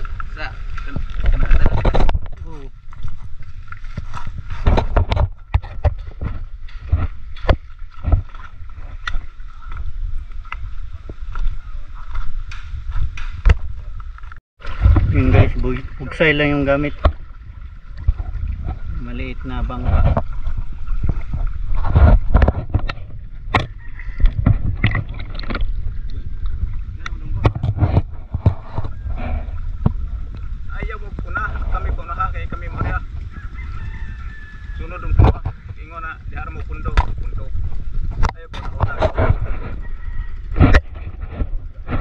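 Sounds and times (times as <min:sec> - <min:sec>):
low rumble: 0:00.0 - 0:42.0
water splashing against canoe hull: 0:00.0 - 0:42.0.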